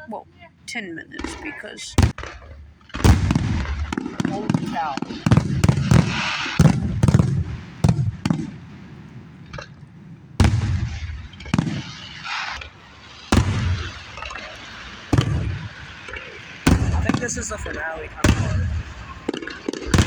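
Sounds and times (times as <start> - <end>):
firework shells bursting: 1.2 - 20.0.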